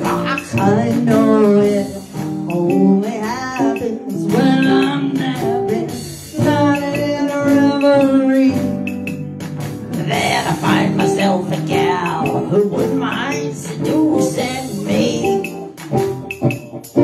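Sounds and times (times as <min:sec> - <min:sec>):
person singing: 0:00.0 - 0:09.0, 0:09.9 - 0:17.0.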